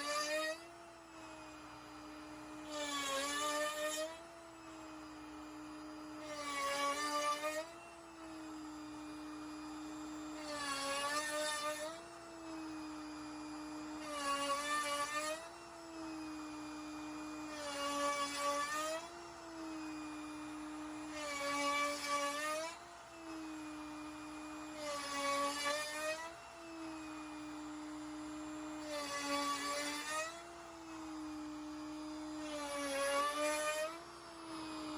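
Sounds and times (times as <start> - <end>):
bit cutting into wood: 0.0 - 34.9
router spindle whine: 0.0 - 34.9.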